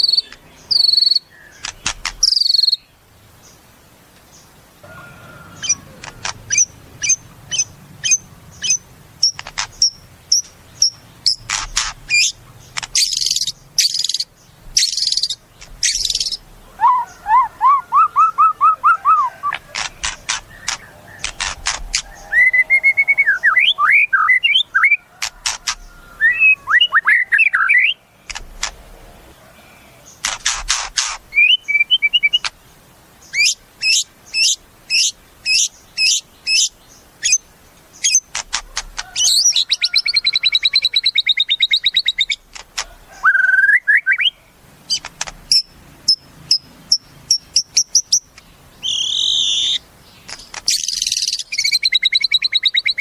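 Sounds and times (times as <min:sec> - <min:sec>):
bird singing varied song: 0:00.0 - 0:53.0.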